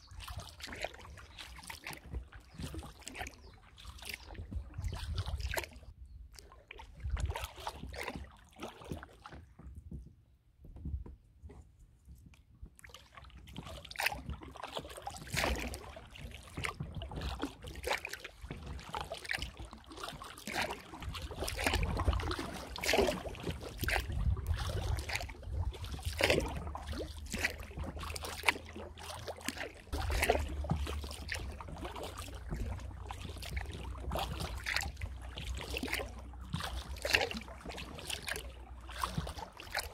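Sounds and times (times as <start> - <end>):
paddle splashing and dripping: 0.0 - 10.2, 12.6 - 39.9
water sloshing at hull: 0.0 - 39.9.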